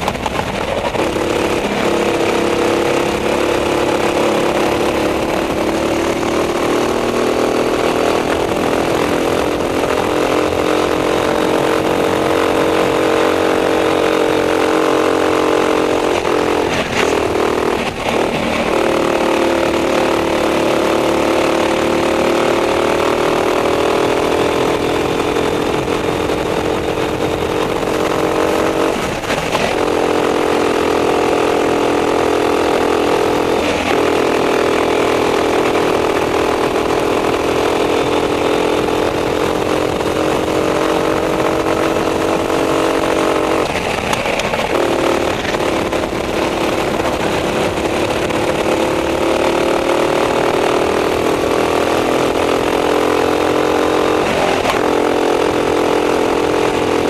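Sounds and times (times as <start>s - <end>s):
racing kart engine at high revs: 0.0s - 57.0s.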